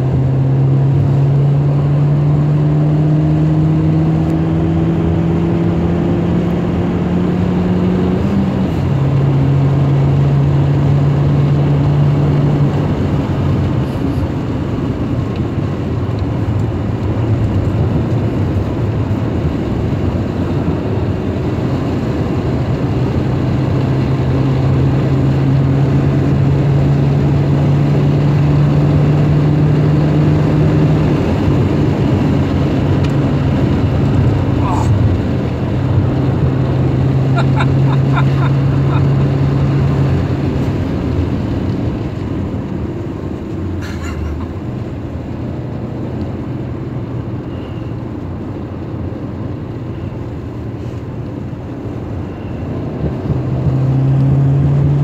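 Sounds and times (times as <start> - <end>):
car engine accelerating: 0.0 - 55.0
road and tyre noise: 0.0 - 55.0.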